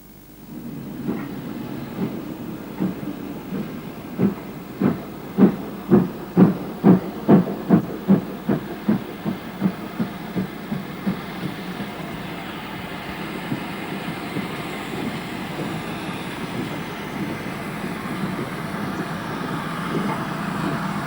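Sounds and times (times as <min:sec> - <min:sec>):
steam locomotive exhaust chuffing: 0:00.0 - 0:21.0.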